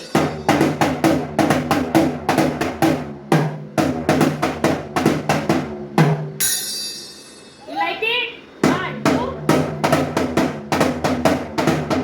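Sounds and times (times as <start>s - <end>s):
drum beaten with a drumstick: 0.0s - 7.7s, 8.4s - 12.0s.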